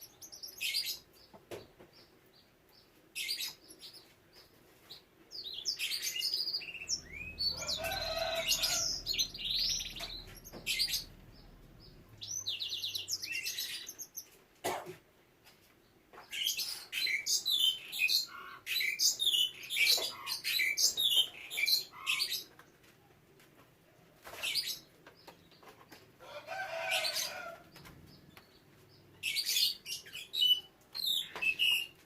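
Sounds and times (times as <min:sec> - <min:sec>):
canaries chirping: 0:00.0 - 0:14.4, 0:16.2 - 0:22.9, 0:24.2 - 0:32.0.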